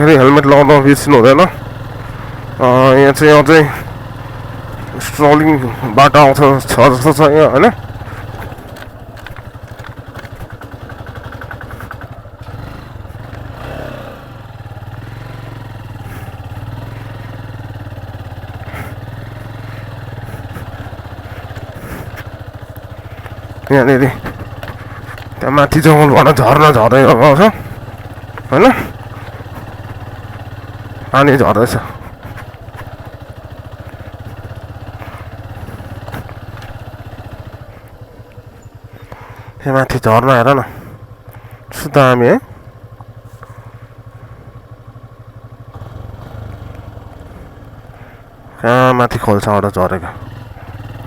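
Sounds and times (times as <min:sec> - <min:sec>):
motorcycle knocking on rough track: 0:00.0 - 0:48.6
motorcycle engine running: 0:00.0 - 0:51.0.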